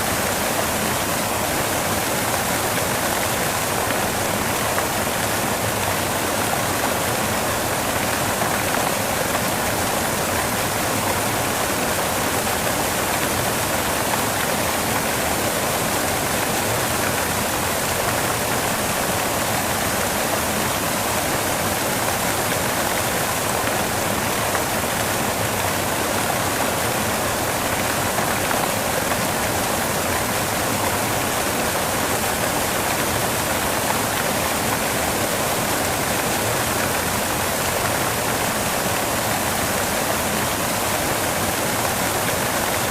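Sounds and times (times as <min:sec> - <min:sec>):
steady white noise hiss: 0:00.0 - 0:42.9.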